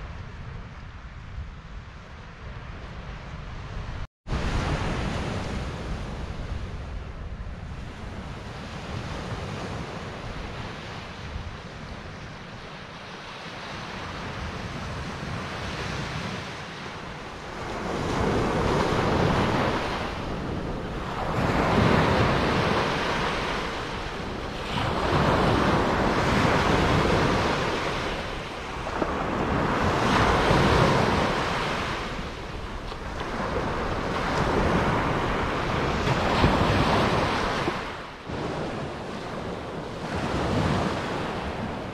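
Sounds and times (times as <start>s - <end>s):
wind rumbling on microphone: 0.0s - 41.9s
small waves washing on sand: 7.8s - 41.9s.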